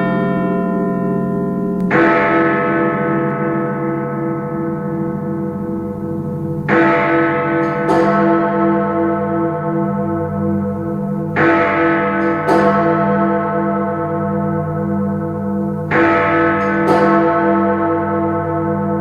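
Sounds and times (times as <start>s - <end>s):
clock tower bell strikes: 0.0s - 19.0s.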